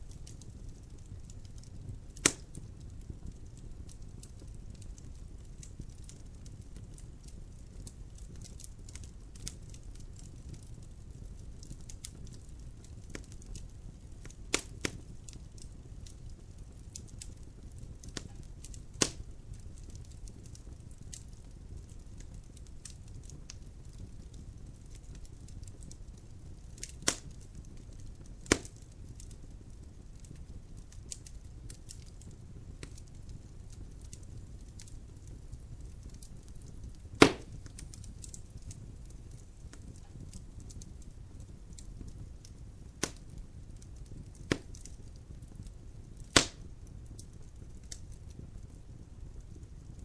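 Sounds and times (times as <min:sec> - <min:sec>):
burning logs snapping and popping: 0:00.0 - 0:50.0
fire rumbling: 0:00.0 - 0:50.0.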